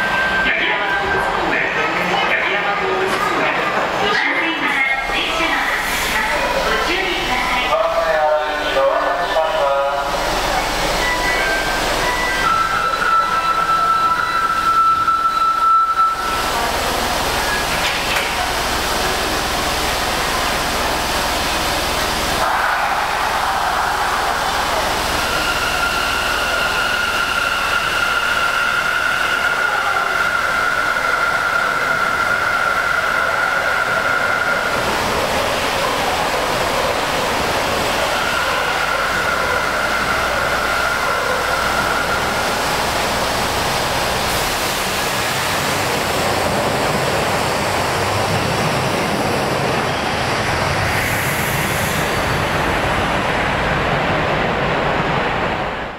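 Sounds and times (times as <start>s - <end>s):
train wheels and air noise: 3.0s - 55.9s.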